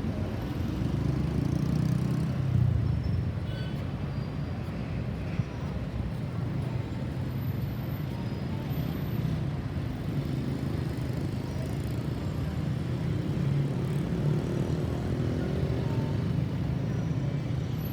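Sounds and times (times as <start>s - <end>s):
traffic engines rumbling: 0.0s - 17.9s.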